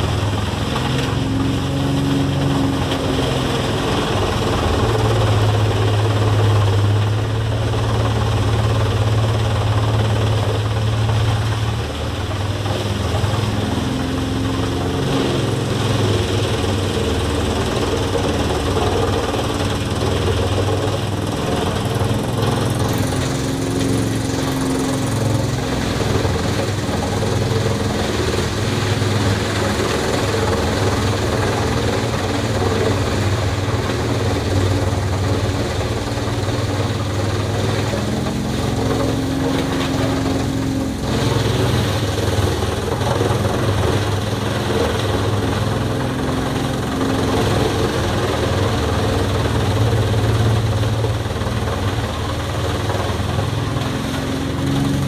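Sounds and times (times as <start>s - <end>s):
wood chipper running under load: 0.0s - 55.0s.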